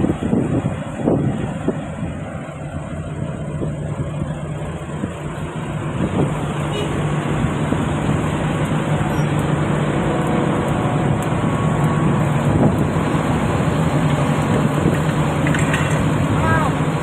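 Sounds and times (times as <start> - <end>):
heavy diesel engine humming: 0.0 - 17.0.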